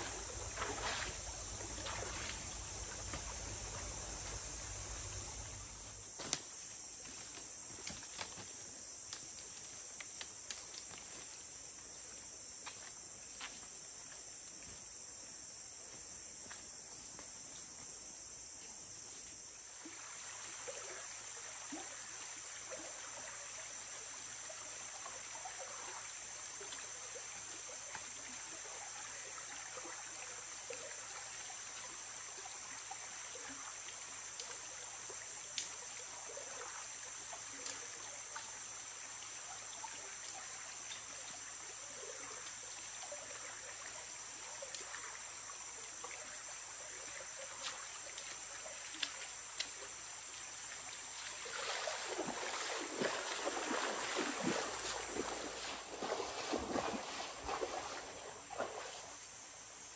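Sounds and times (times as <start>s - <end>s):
stream water gurgling: 0.0s - 15.7s, 19.4s - 59.9s
insects droning: 0.0s - 59.9s.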